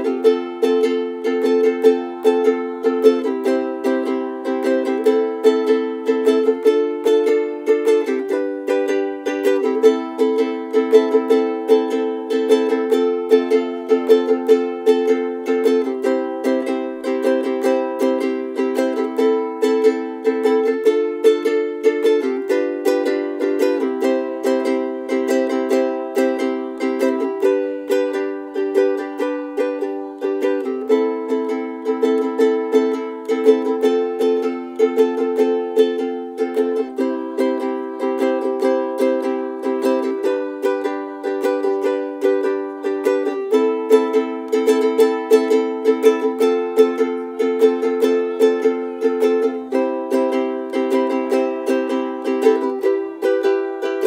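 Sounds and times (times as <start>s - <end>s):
plucked string instrument music: 0.0s - 54.0s.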